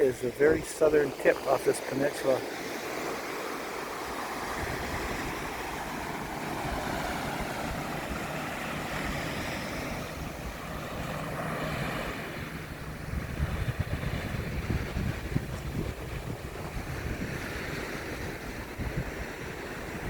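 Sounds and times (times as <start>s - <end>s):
surf washing on beach: 0.0s - 20.0s
wind buffeting microphone: 3.0s - 20.0s.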